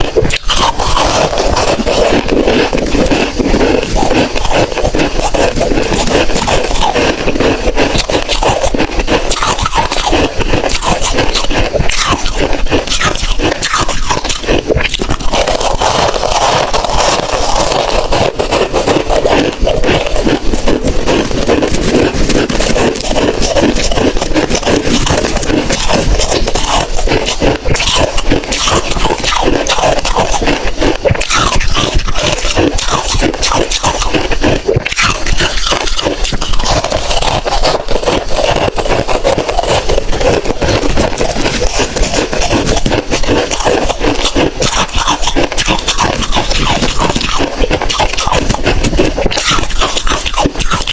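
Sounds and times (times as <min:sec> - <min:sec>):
ice crunching between teeth: 0:00.0 - 0:50.9.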